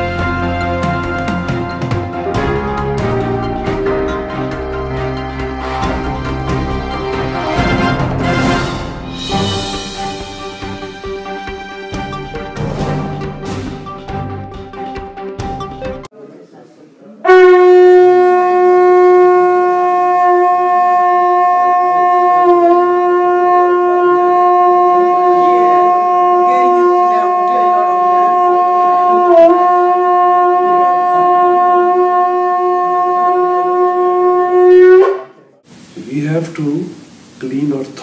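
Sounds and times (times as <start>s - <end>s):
conch shell blown: 0.0s - 13.4s, 17.2s - 35.5s.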